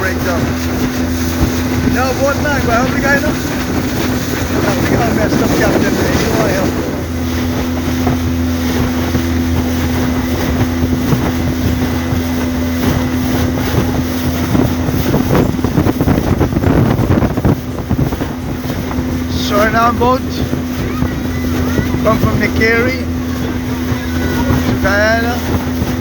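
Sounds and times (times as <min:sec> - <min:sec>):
motorboat engine running: 0:00.0 - 0:26.0
water rushing along hull: 0:00.0 - 0:26.0
wind buffeting microphone: 0:00.0 - 0:26.0.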